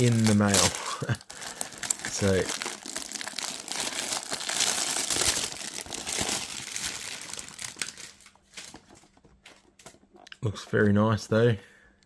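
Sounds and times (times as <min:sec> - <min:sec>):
packaging crinkling: 0:00.0 - 0:10.2.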